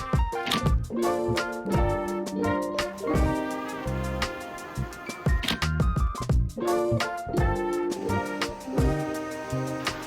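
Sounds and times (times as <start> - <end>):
mellow instrumental music: 0.0 - 10.0.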